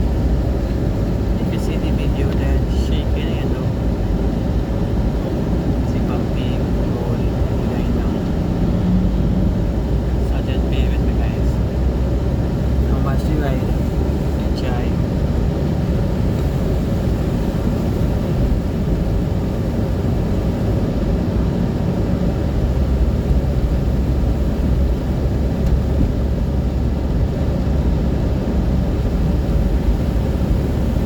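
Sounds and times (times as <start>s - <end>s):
moving vehicle rumble from inside: 0.0s - 31.0s.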